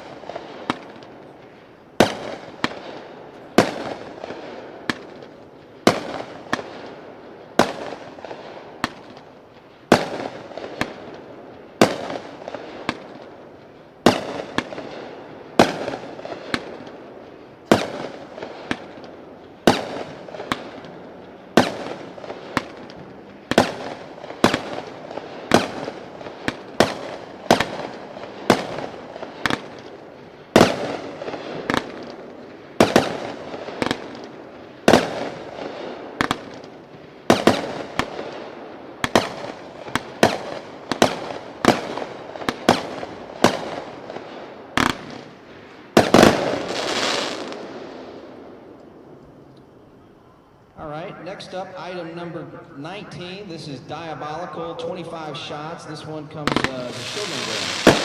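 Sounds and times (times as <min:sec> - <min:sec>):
faint fireworks pops: 0:00.0 - 0:07.0, 0:07.6 - 0:49.7, 0:51.0 - 0:58.0
fireworks bangs: 0:00.0 - 0:49.2, 0:50.9 - 0:58.0.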